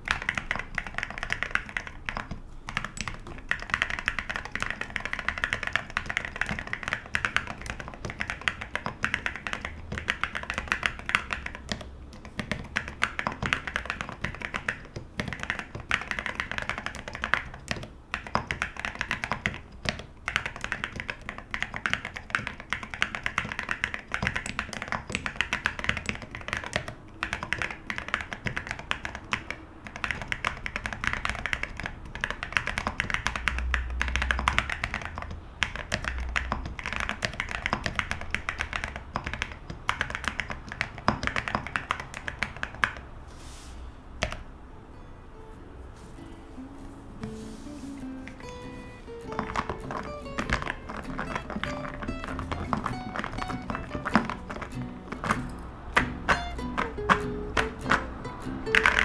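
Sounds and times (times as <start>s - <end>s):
fast typing on mechanical keyboard: 0.0s - 43.2s, 48.3s - 59.0s.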